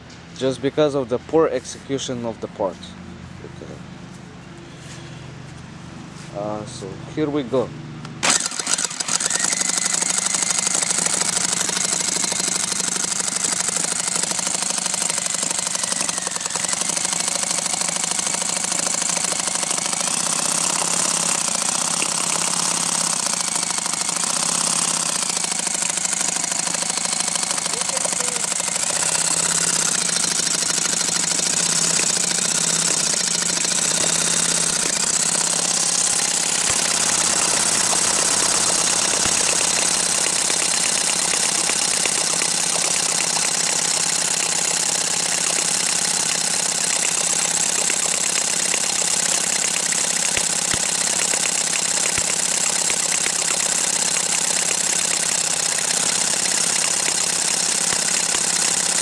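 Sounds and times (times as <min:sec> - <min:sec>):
electric drill spinning: 0:08.1 - 0:59.0
engine popping: 0:08.2 - 0:59.0.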